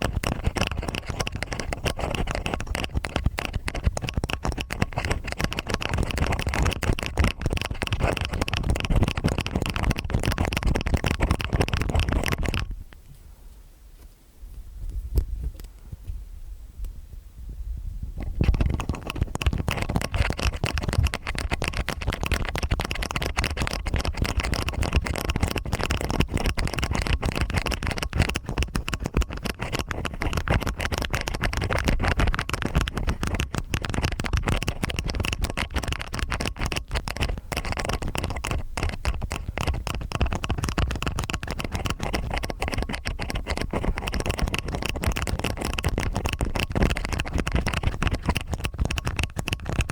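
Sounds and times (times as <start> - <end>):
ear pick scratching in ear: 0.0 - 12.8, 18.2 - 49.9.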